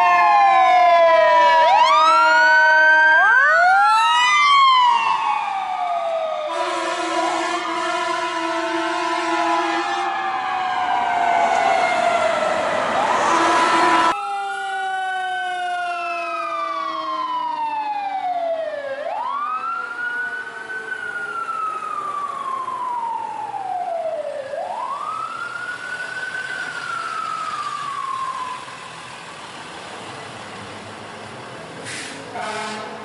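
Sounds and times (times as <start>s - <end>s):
faint second siren: 0.0s - 30.2s
fire engine siren wailing: 0.0s - 33.0s.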